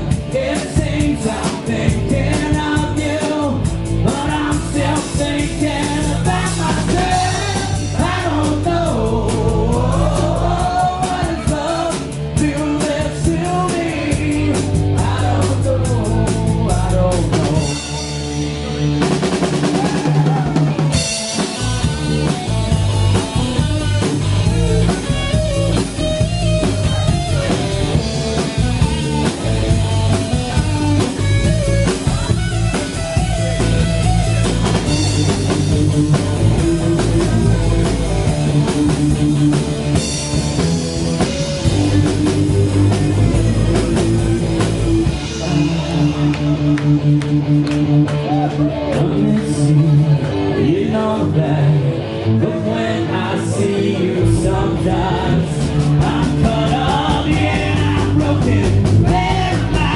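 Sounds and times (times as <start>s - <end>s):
drum kit steady beat: 0.0s - 48.3s, 55.4s - 59.9s
electric guitar: 0.0s - 59.9s.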